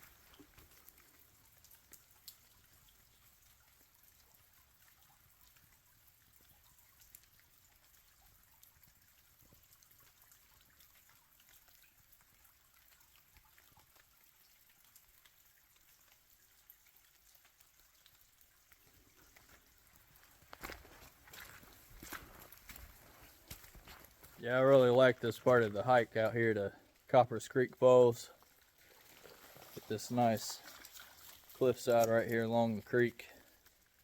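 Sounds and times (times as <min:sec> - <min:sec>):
faint steady rain: 0:00.0 - 0:34.0
raindrops ticking: 0:00.0 - 0:34.0.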